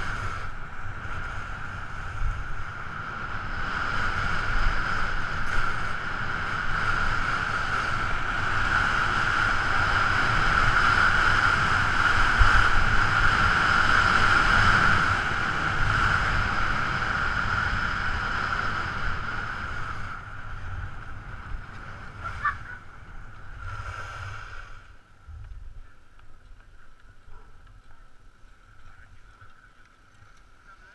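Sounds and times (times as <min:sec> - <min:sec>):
wind rushing over camera: 0:00.0 - 0:30.9.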